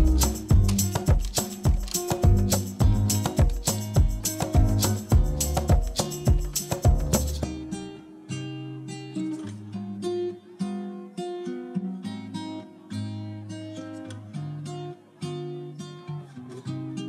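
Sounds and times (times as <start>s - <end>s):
guitar picking a tune: 0.0s - 17.0s.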